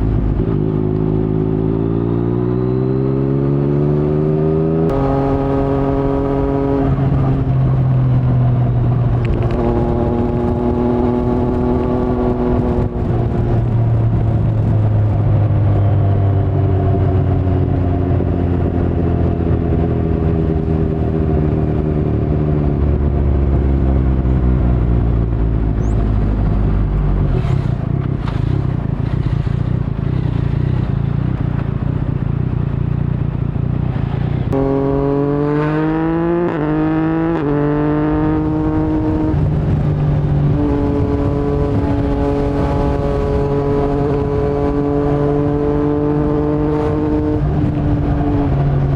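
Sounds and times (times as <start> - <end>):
motorcycle engine revving: 0.0 - 48.9
wind rumble: 0.0 - 48.9.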